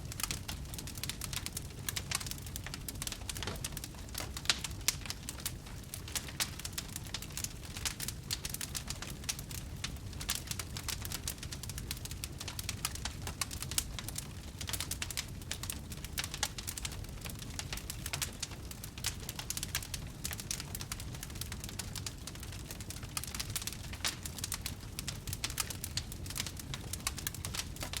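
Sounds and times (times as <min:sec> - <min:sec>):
low rumble of burning: 0:00.0 - 0:28.0
wood fire crackling and popping: 0:00.0 - 0:28.0.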